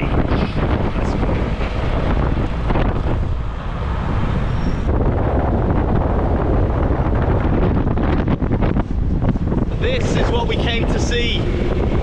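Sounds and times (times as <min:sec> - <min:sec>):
auto rickshaw engine and road noise: 0:00.0 - 0:12.0
wind buffeting microphone: 0:00.0 - 0:12.0.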